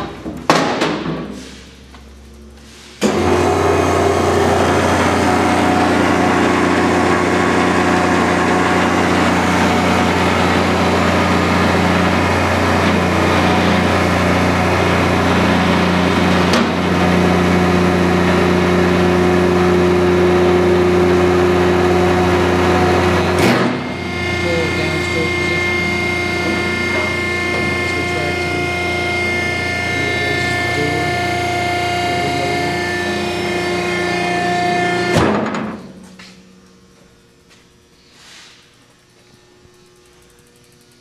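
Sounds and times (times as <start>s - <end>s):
hydraulic power pack humming: 0.0s - 41.0s.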